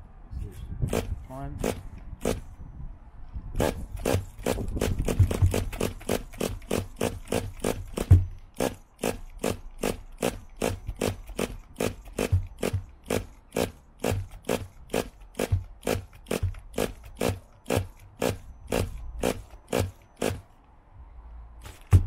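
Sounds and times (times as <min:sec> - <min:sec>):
recoil starter cord pulls: 0:00.9 - 0:02.5, 0:03.6 - 0:20.5, 0:21.6 - 0:22.0.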